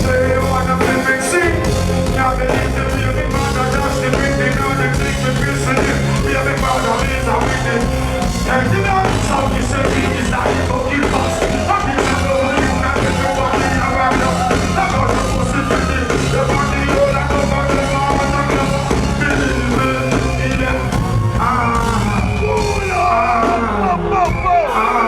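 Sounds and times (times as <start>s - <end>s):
live reggae band playing: 0.0s - 25.0s.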